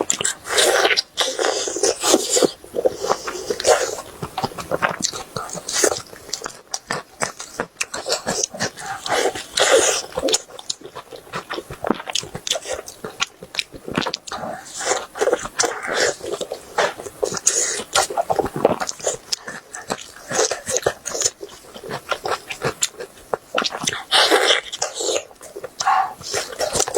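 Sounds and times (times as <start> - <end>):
person biting and chewing food: 0.0 - 26.9.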